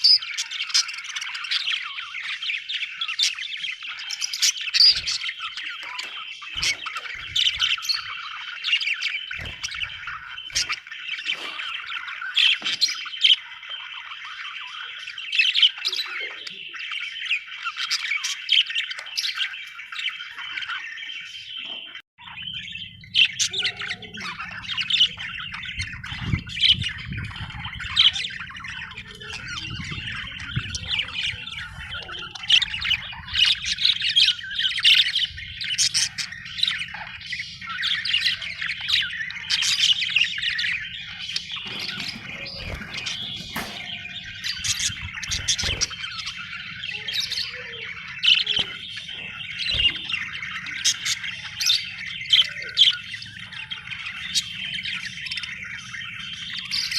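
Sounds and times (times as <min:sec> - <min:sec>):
budgerigars chattering and chirping: 0:00.0 - 0:56.9.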